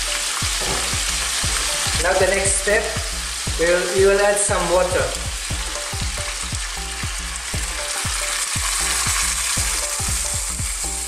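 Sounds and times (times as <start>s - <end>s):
ribs sizzling in oil: 0.0s - 11.0s.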